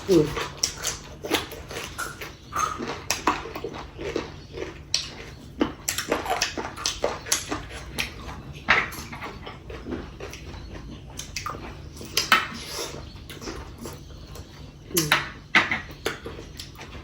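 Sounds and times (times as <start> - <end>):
mouth smacks and chewing: 0.0 - 17.0.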